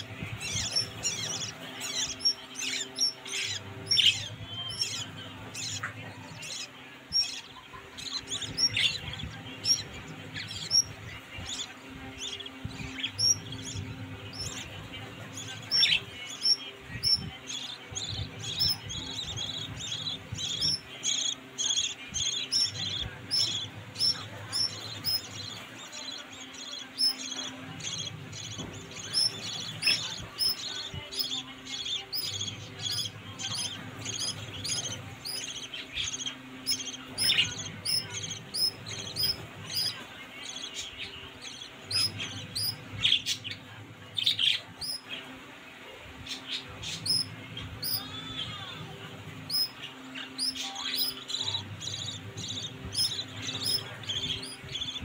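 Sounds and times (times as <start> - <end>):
bird chicks chirping: 0.0 - 55.0.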